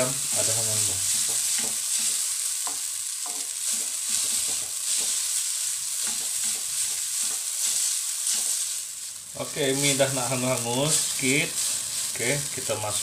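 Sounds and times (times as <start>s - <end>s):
spatulas scraping wok: 0.0s - 12.6s
noodles sizzling in oil: 0.0s - 13.0s.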